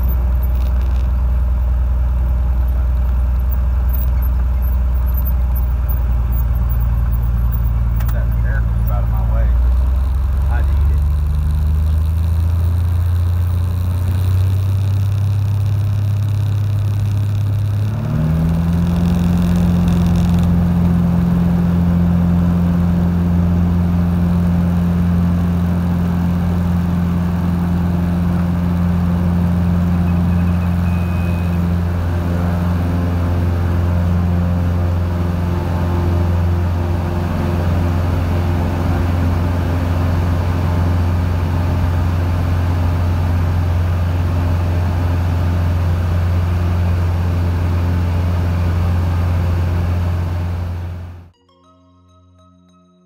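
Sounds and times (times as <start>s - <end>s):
propeller plane engine: 0.0s - 51.4s.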